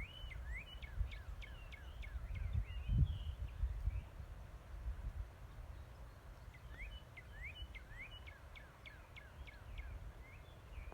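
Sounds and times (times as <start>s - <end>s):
songbird chirping: 0.0s - 4.2s, 5.4s - 10.9s.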